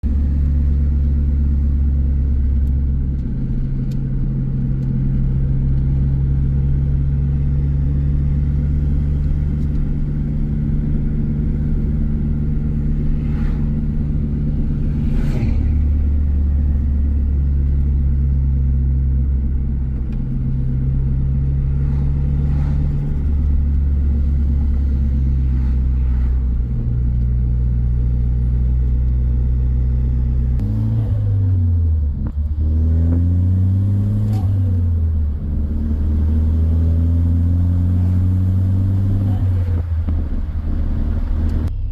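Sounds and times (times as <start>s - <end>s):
car engine droning: 0.0s - 41.9s.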